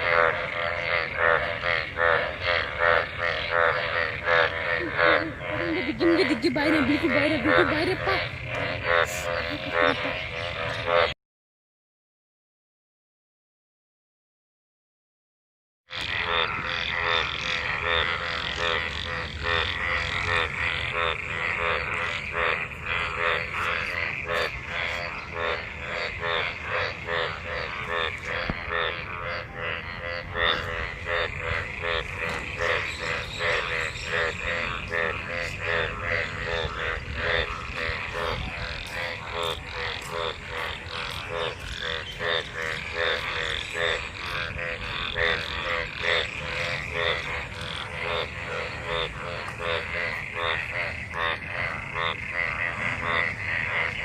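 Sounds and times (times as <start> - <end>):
frogs croaking in chorus: 0.0 - 11.2, 15.9 - 54.0.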